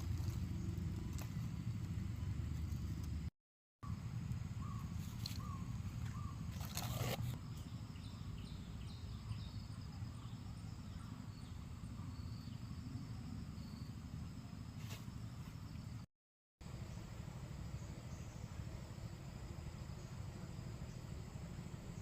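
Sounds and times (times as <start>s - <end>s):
faint bird and insect chirps: 0.0s - 22.0s.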